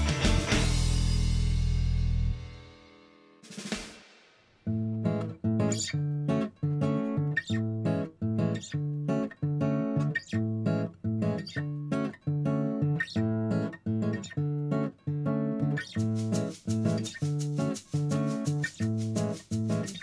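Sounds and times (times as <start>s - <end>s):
acoustic guitar strumming: 0.0s - 2.7s, 4.6s - 20.0s.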